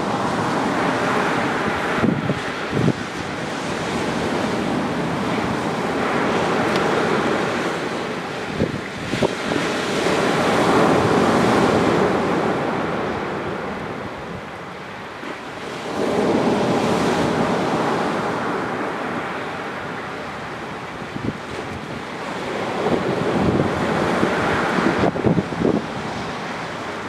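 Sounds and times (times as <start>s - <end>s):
waves breaking on a beach: 0.0s - 27.0s.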